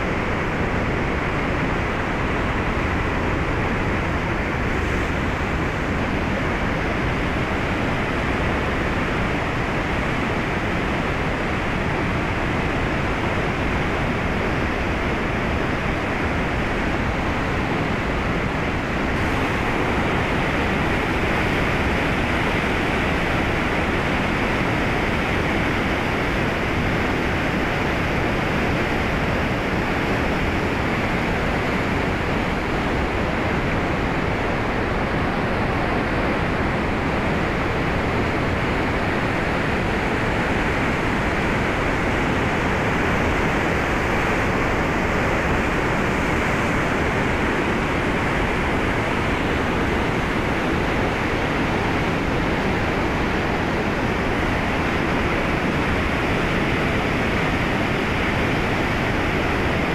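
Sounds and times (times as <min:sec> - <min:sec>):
river rushing through rapids: 0:00.0 - 0:59.9.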